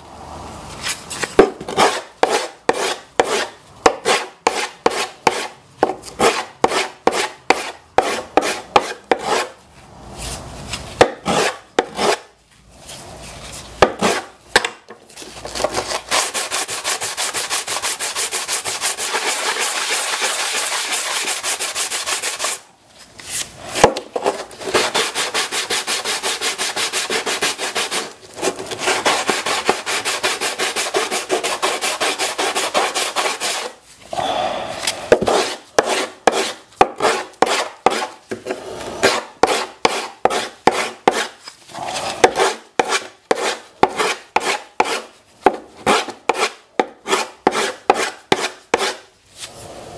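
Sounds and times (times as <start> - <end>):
wood rubbing on sandpaper: 0.8 - 5.6, 6.2 - 14.4, 15.2 - 22.7, 23.3 - 34.0, 35.1 - 49.6.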